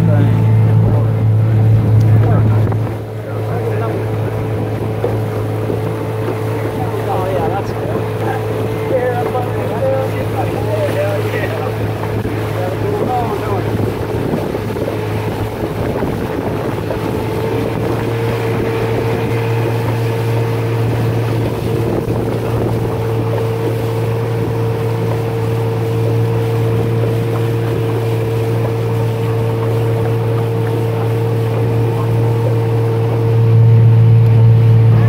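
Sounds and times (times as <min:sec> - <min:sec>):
outboard motor droning: 0:00.0 - 0:35.0
rushing water: 0:00.0 - 0:35.0
wind on the microphone: 0:00.1 - 0:34.0.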